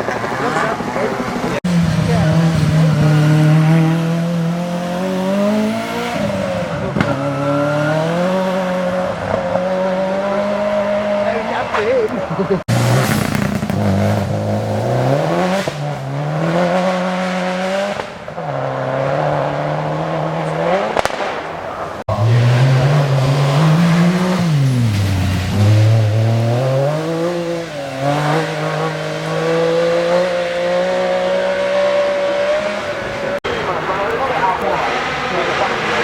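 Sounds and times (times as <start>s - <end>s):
rally car engines revving: 0.0s - 36.0s.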